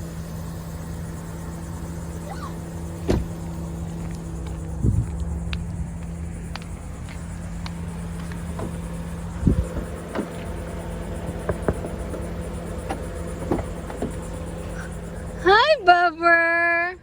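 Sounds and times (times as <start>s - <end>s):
car engine idling hum: 0.0s - 17.0s.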